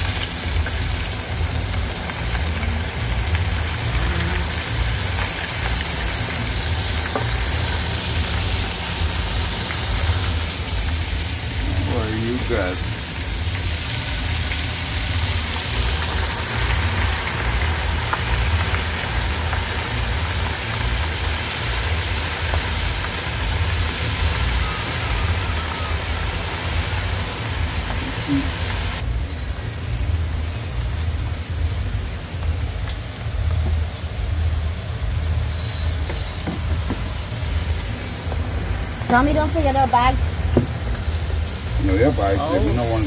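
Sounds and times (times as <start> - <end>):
food frying in deep fryer: 0.0 - 43.0
low uneven rumble: 0.0 - 43.0.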